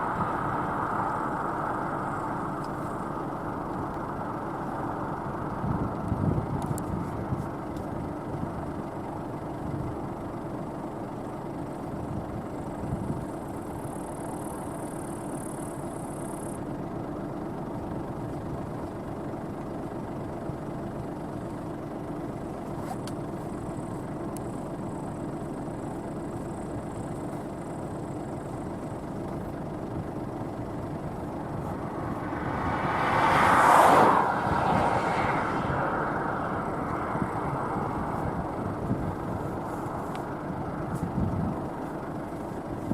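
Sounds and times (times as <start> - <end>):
combine harvester drone: 0.0 - 42.9.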